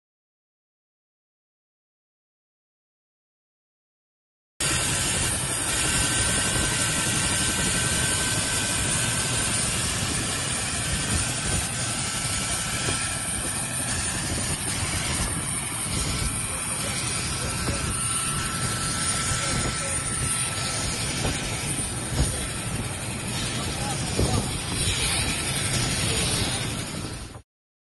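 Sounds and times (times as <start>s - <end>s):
helicopter rotor and engine rumble: 4.6s - 27.4s
high turbine whine: 4.6s - 27.4s.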